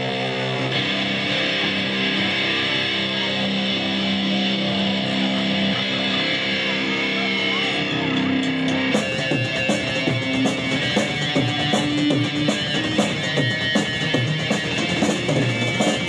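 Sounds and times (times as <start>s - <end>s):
electric guitars ringing: 0.0s - 16.0s.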